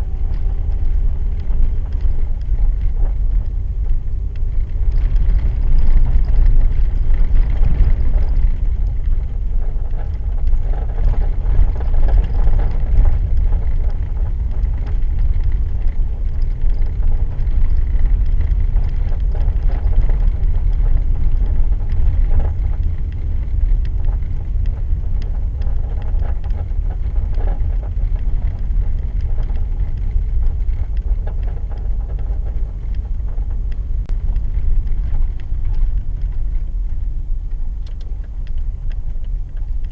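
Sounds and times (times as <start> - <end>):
abnormal car noise: 0.0 - 39.9
car driving on ice rumble: 0.0 - 39.9.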